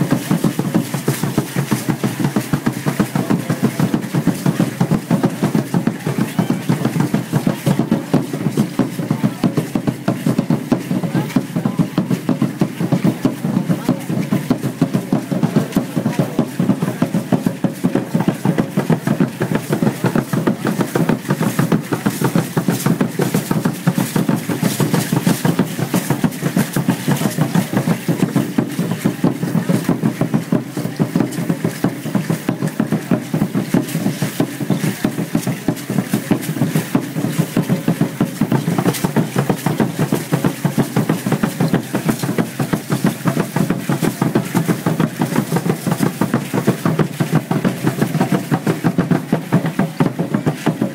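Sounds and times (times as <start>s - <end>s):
fast steady drumbeat: 0.0s - 50.9s.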